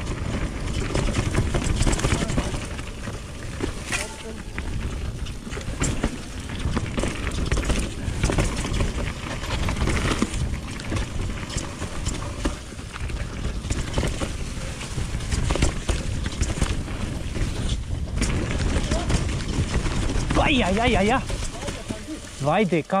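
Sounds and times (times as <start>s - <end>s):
bike rattling over bumps: 0.0s - 23.0s
wind and rolling tyres rumble: 0.0s - 23.0s.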